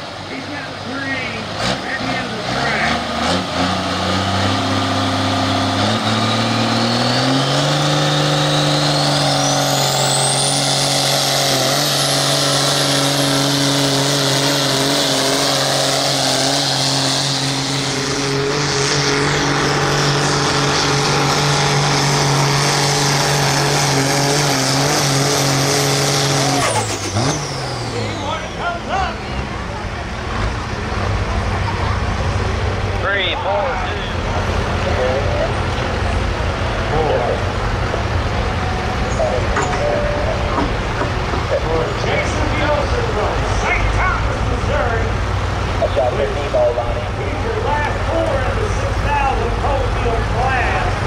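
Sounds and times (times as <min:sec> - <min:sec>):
tractor engine at full throttle: 0:00.0 - 0:51.0.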